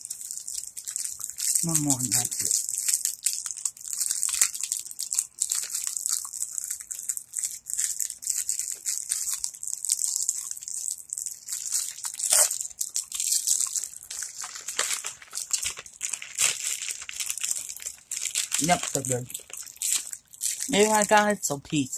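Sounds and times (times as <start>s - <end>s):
plastic candy bag crinkling: 0.0s - 21.9s.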